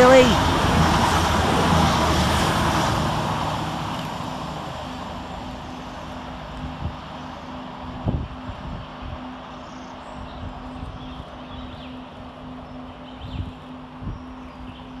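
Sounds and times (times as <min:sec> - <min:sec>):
diesel trains passing at speed: 0:00.0 - 0:15.0.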